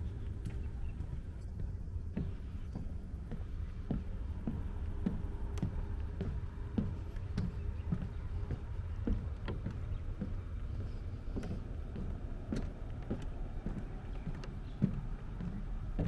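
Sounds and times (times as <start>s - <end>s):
footsteps on pavement: 0.0s - 16.0s
steady low rumble: 0.0s - 16.0s.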